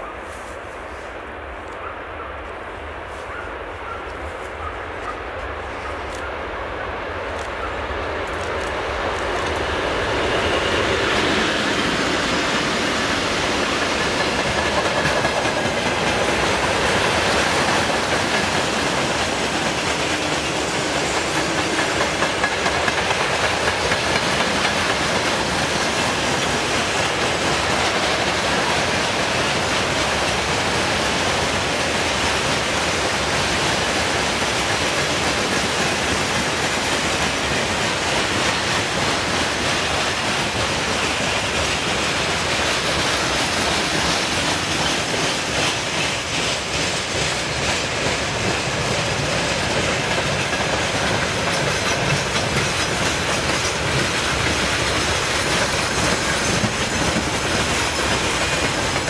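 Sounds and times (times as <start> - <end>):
diesel locomotive passing: 0.0 - 59.0
wheels clacking over rail joints: 7.3 - 59.0
wheels on rails: 7.3 - 59.0.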